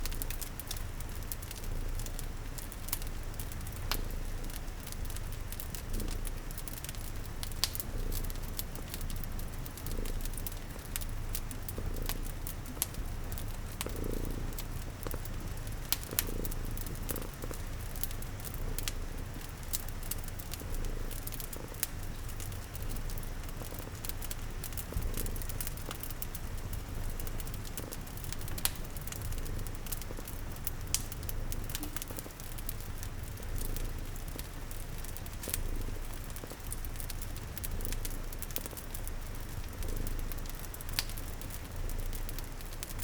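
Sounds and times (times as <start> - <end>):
cat purring: 0.0 - 43.0
wood fire crackling: 0.0 - 43.0.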